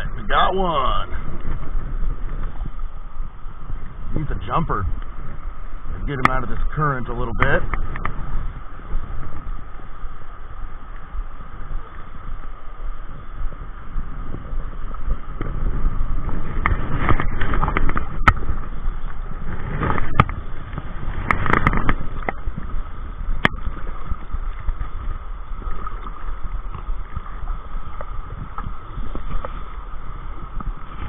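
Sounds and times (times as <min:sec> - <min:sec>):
river current rushing: 0:00.0 - 0:31.0
water splashing: 0:00.0 - 0:31.0.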